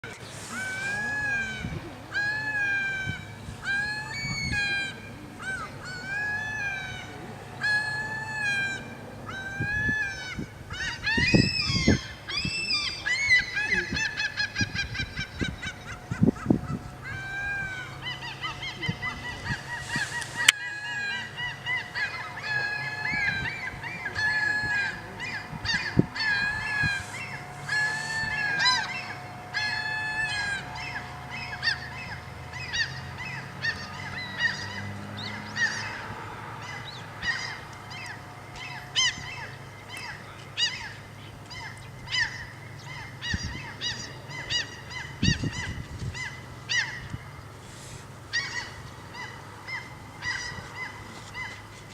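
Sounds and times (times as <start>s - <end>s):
birds honking calls: 0.0s - 51.9s.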